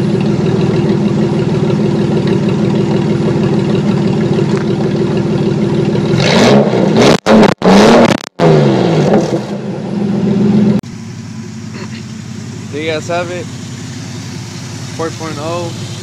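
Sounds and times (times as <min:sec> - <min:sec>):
loud car engine idling and revving: 0:00.0 - 0:16.0.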